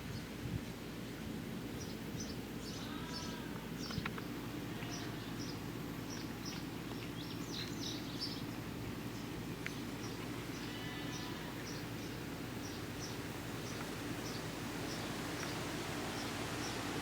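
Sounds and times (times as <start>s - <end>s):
small birds chirping: 1.8s - 17.0s.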